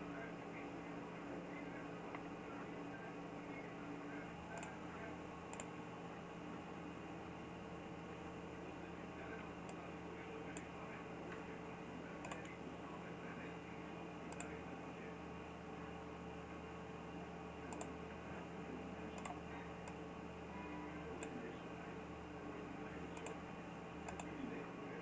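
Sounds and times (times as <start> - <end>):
low hum with high whine: 0.0 - 25.0.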